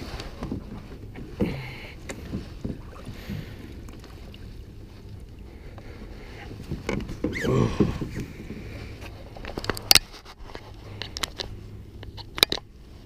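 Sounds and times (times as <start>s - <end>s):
water: 0.0s - 13.0s
wind: 0.0s - 13.0s.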